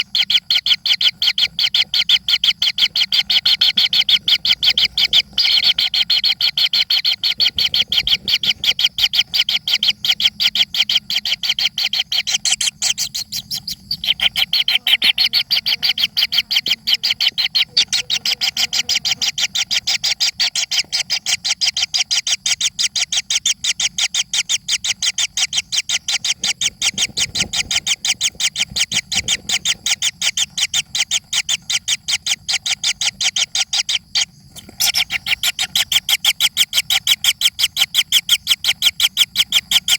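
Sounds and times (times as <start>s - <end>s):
young birds begging chirps: 0.0s - 39.9s.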